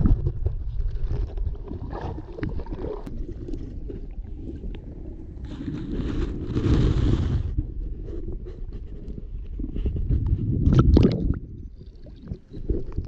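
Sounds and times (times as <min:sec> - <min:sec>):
muffled underwater water sloshing: 0:00.0 - 0:13.0.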